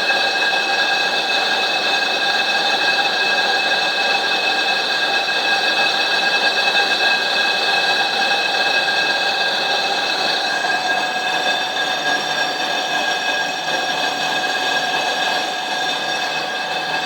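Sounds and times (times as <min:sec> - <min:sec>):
lathe cutting metal squealing: 0:00.3 - 0:17.0.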